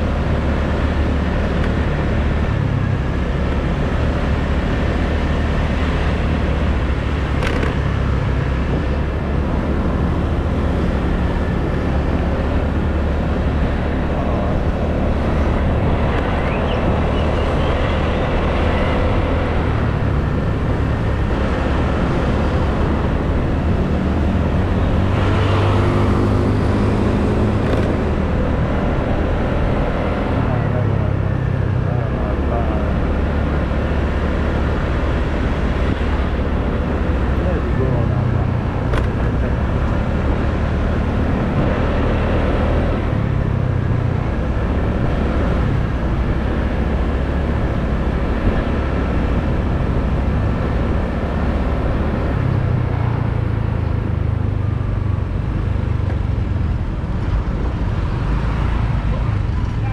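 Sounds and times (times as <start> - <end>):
traffic: 0.0 - 59.9.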